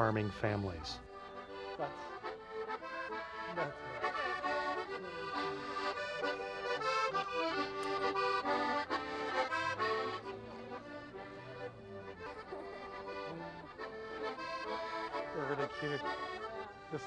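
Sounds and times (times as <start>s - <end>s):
button accordions playing: 0.0s - 17.0s.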